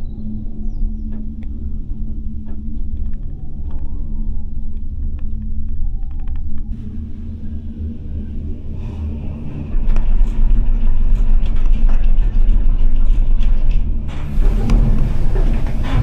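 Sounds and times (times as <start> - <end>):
cable car cabin rumbling: 0.0 - 16.0.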